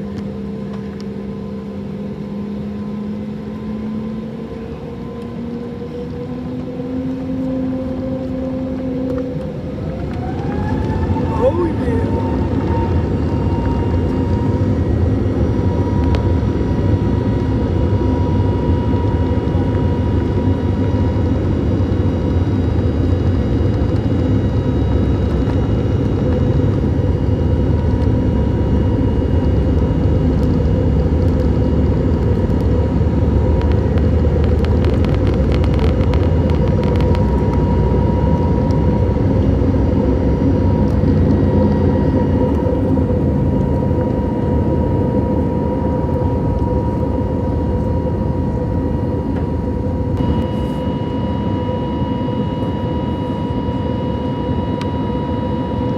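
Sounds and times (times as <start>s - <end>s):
jet engine rumble: 0.0s - 55.9s
thin steady whine: 0.0s - 55.9s.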